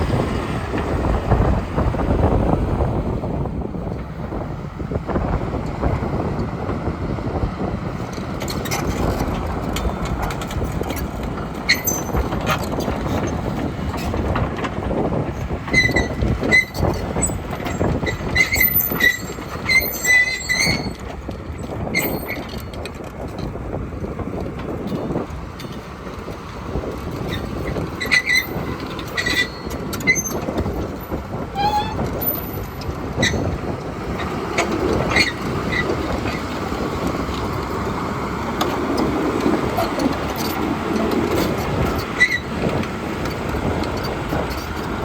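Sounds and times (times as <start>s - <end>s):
excavator diesel engine under load: 0.0s - 45.0s
steel tracks clanking and squealing: 0.0s - 45.0s.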